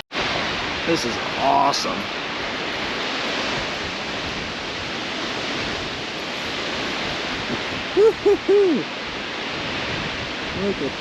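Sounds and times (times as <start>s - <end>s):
waterfall rushing: 0.2s - 11.0s.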